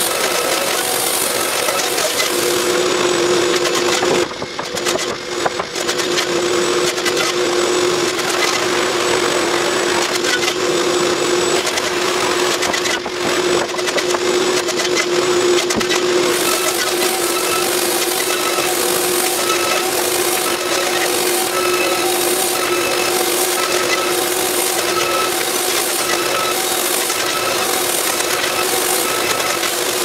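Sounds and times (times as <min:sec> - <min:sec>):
woodworking machine humming: 0:00.0 - 0:30.0.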